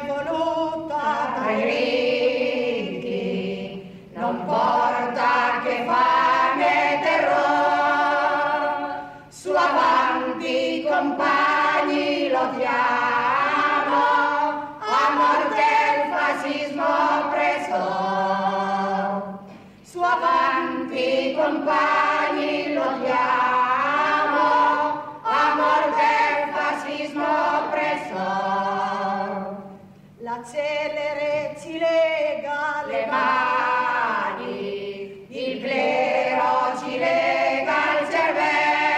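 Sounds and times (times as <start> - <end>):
voices singing without instruments: 0.0 - 38.9.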